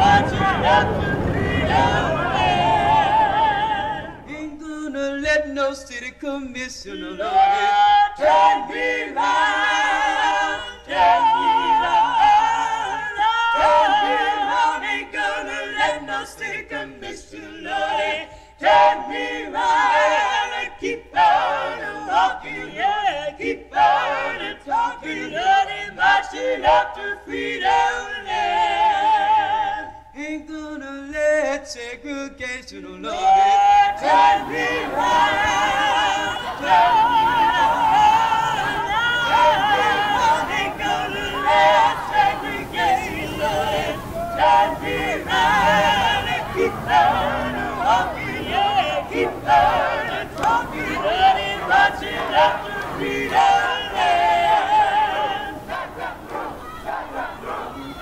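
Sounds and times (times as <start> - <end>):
choir singing a cappella: 0.0 - 58.0.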